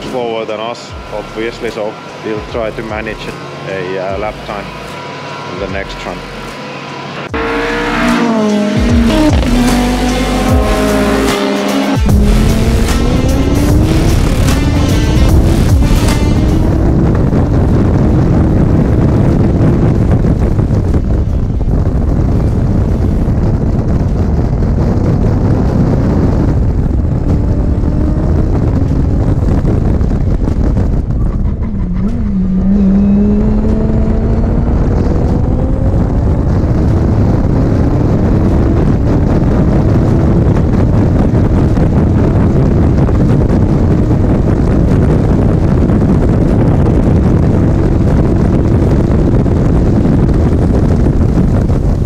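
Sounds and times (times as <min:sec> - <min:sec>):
race car engine: 0:00.0 - 0:52.0
wind rush on microphone: 0:07.3 - 0:52.0.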